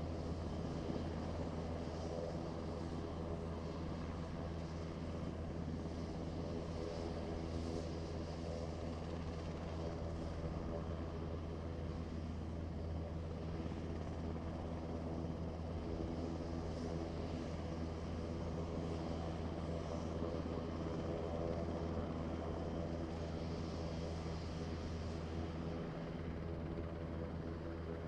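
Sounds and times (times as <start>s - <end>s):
airliner engines humming: 0.0s - 28.0s.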